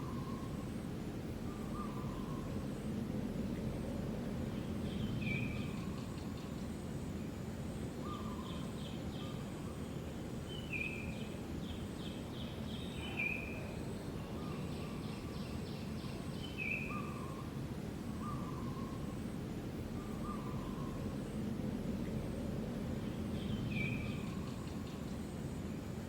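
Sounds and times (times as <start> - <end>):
low outdoor noise: 0.0 - 26.0.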